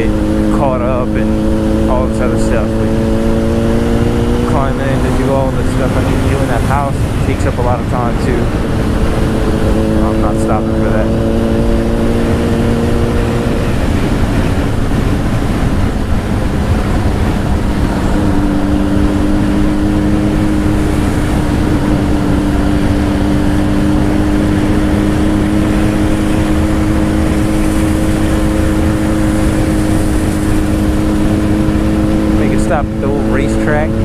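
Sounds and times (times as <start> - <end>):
motorcycle engine at speed: 0.0 - 34.0
wind noise on microphone: 0.0 - 34.0.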